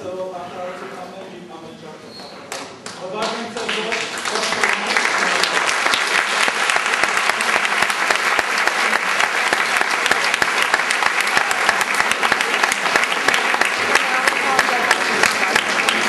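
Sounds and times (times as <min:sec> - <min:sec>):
audience applauding: 0:02.5 - 0:16.0.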